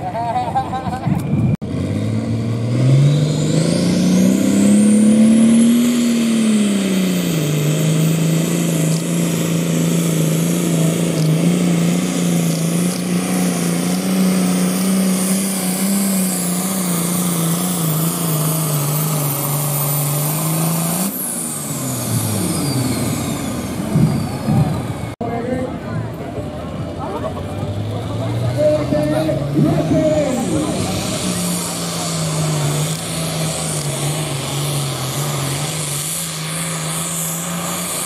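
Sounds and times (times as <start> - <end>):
diesel tractor engine at full throttle: 0.0 - 38.0.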